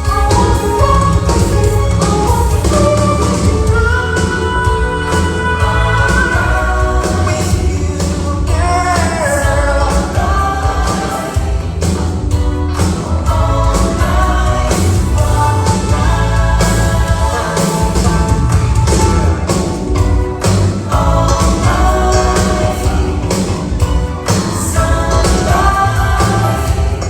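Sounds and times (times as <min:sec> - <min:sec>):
choir-like backing vocals: 0:00.0 - 0:27.0
pop song with singing: 0:00.0 - 0:27.0
steady beat: 0:00.0 - 0:27.0.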